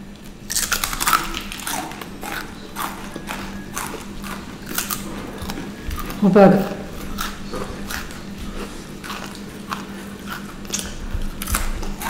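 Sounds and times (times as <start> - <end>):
crunchy snacks being chewed: 0.2 - 12.0.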